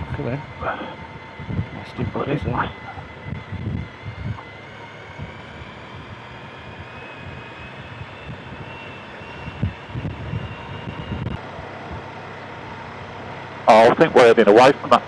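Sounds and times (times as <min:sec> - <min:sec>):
wind noise: 0:00.0 - 0:12.1
faint whine rising in pitch: 0:00.0 - 0:15.0
motorcycle engine: 0:00.0 - 0:15.0.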